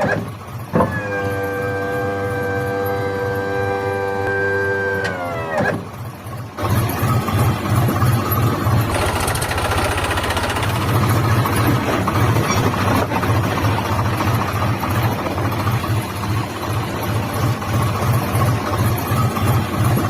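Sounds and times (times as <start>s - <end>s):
small motor chugging: 0.0s - 20.0s.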